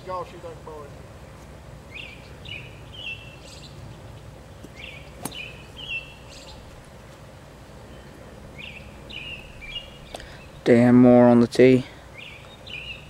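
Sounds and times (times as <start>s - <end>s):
songbird chirping phrase: 0.0s - 13.0s
steady outdoor hush: 0.0s - 13.0s.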